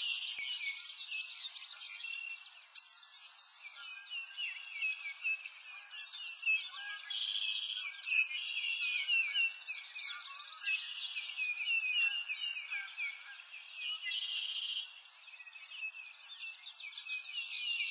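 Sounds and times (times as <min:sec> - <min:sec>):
songbirds chirping and singing: 0:00.0 - 0:17.9.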